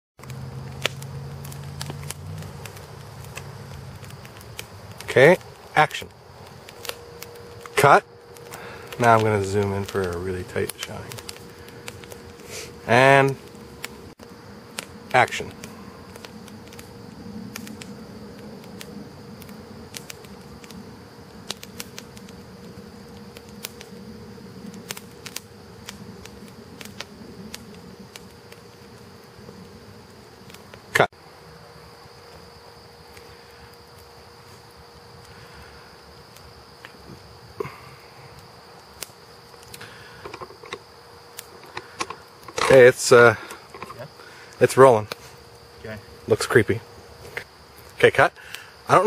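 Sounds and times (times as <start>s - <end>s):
campfire crackling: 0.2s - 49.0s
night insects chirring: 0.2s - 49.0s.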